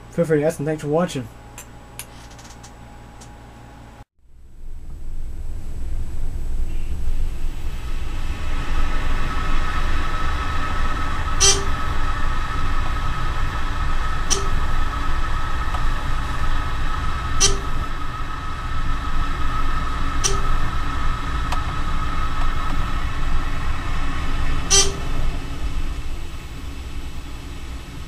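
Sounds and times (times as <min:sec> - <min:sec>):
elevator hum and whine: 0:00.0 - 0:28.0.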